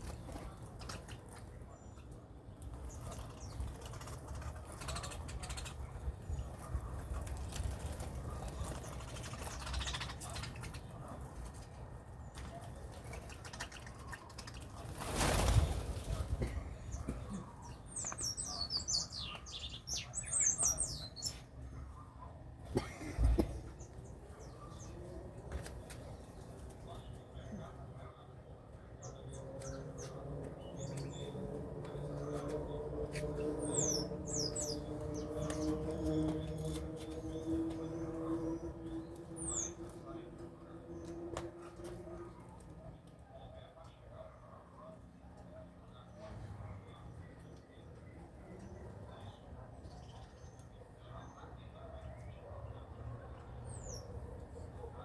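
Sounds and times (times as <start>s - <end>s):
birds calling faintly: 0.0s - 55.0s.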